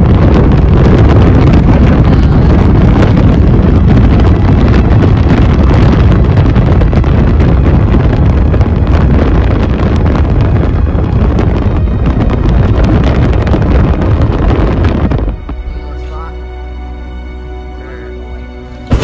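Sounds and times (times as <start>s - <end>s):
car road noise: 0.0s - 19.0s
wind rushing over microphone: 0.0s - 19.0s.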